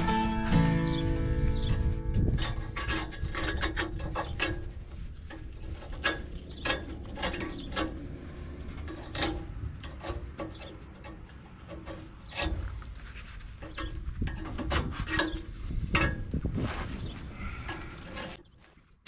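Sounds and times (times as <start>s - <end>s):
metal tool scraping exhaust pipe: 1.4s - 18.5s.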